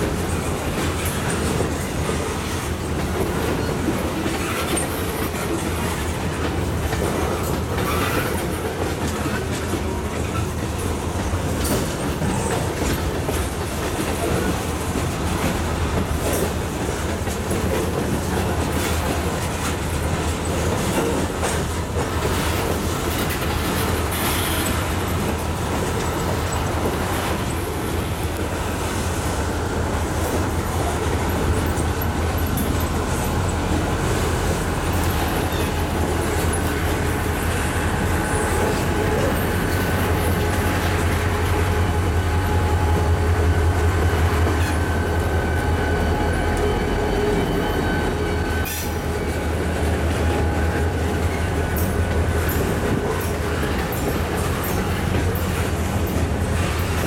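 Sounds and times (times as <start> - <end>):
train wheels rumbling on rail: 0.0 - 57.0
wheels clacking over rail joints: 0.0 - 57.0.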